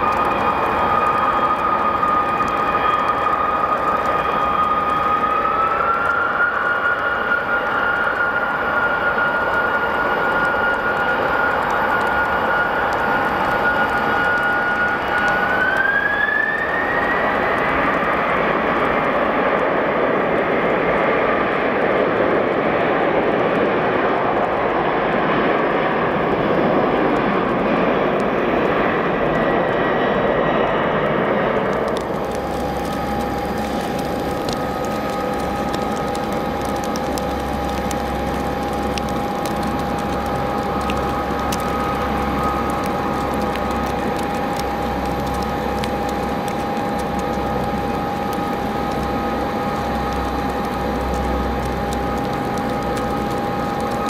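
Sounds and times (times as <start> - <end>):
jet engine whine while taxiing: 0.0 - 54.0
jet engines spooling up and roaring: 0.0 - 54.0.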